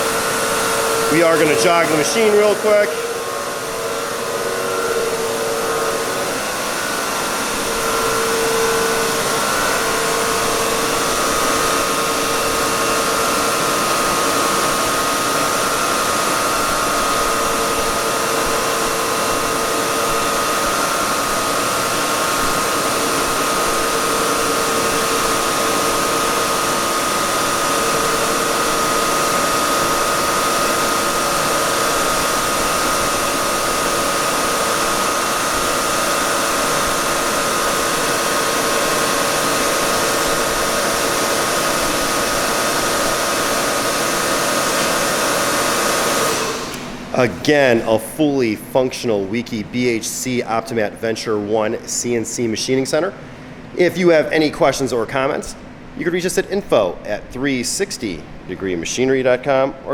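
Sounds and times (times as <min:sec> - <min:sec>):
machine whirring hum: 0:00.0 - 0:59.9
steady machine whine: 0:00.0 - 0:59.9.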